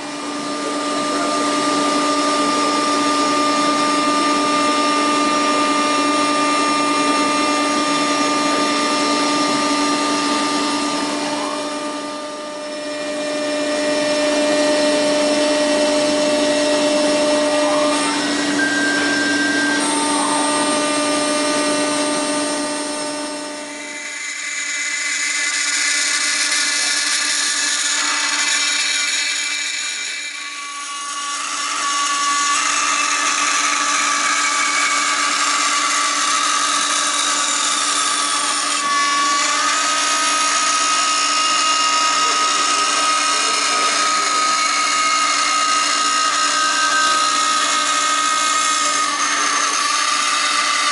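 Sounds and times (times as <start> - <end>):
milling machine spindle whine: 0.0 - 50.9.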